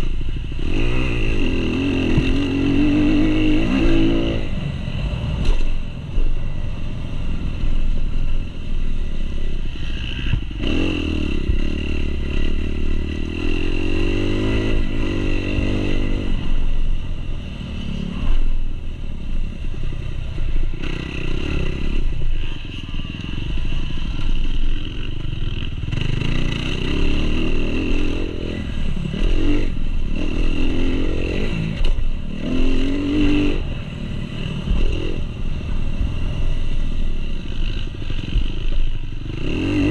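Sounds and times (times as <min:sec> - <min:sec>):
motorcycle engine revving: 0:00.0 - 0:08.4, 0:09.2 - 0:18.7, 0:20.4 - 0:39.9.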